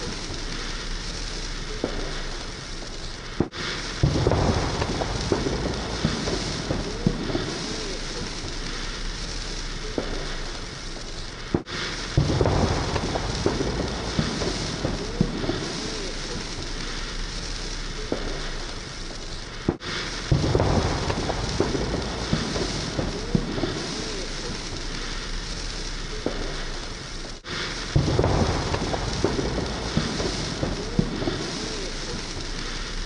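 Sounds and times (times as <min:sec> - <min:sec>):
rushing hiss with crackles: 0:00.0 - 0:33.0.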